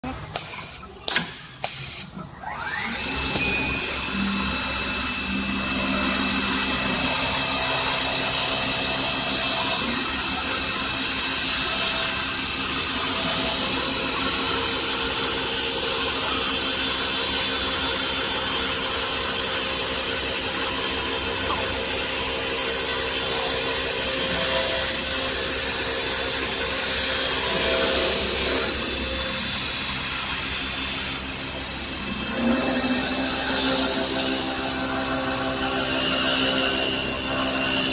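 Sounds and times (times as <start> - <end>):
lathe motor whine: 2.4 - 37.9.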